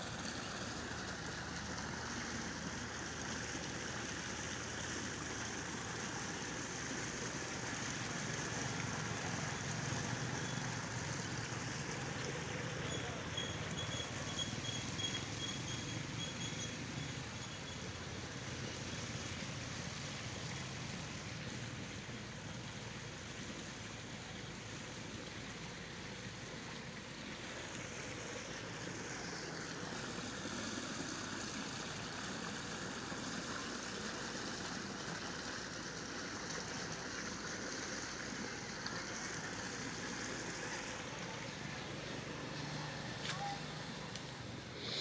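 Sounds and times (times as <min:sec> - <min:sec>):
water rushing in a canal: 0:00.0 - 0:45.0.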